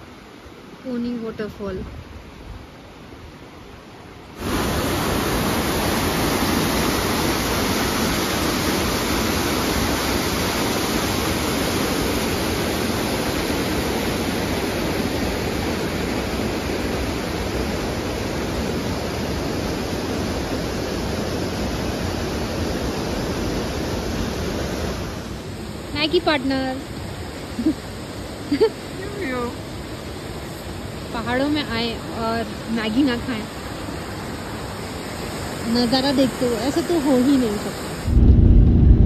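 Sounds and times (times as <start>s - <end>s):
mountain stream rushing over boulders: 0.0s - 38.1s.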